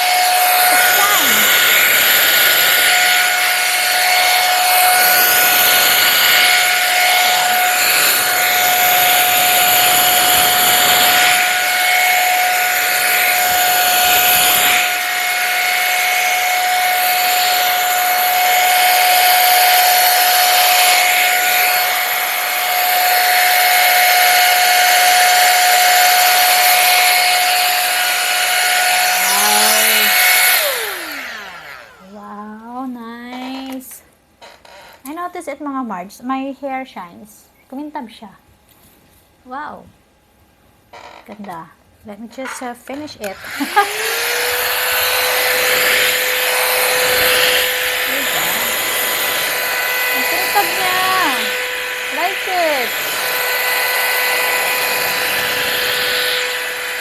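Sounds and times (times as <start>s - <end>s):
hot air brush motor whine: 0.0s - 32.3s, 43.0s - 57.0s.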